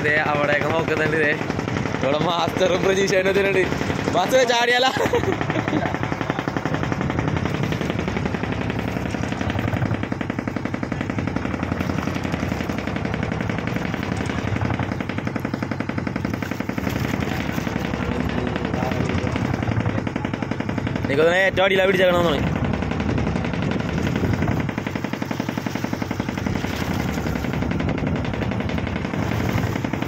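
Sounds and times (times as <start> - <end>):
boat engine knocking: 0.0 - 30.0.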